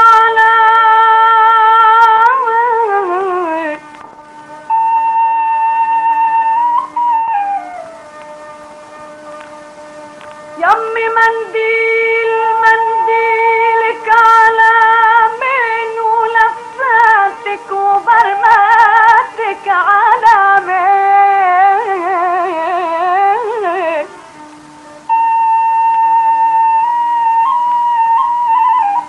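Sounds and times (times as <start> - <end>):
solo melody instrument: 1.7 - 19.2, 21.8 - 29.0.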